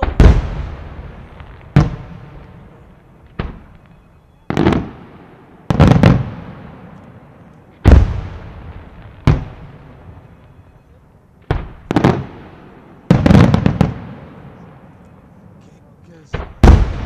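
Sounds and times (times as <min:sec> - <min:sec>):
firework shells booming: 0:00.0 - 0:10.4, 0:11.4 - 0:15.0, 0:16.2 - 0:17.0.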